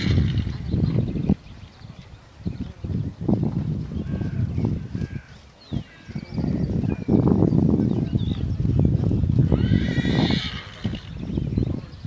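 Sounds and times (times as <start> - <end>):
small birds singing: 0.0 - 12.0.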